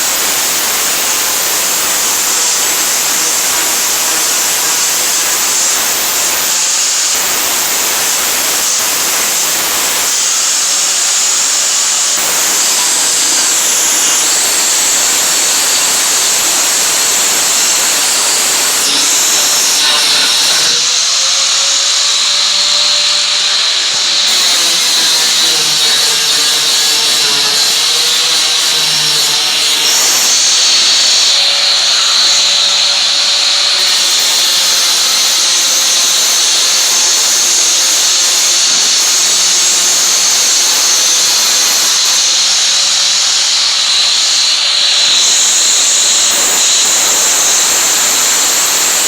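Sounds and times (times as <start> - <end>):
angle grinder grinding metal: 0.0 - 49.0.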